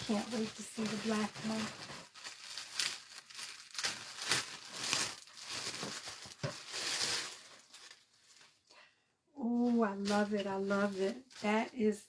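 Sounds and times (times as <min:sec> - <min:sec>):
packaging rustling and crinkling: 0:00.0 - 0:08.7, 0:09.5 - 0:12.0.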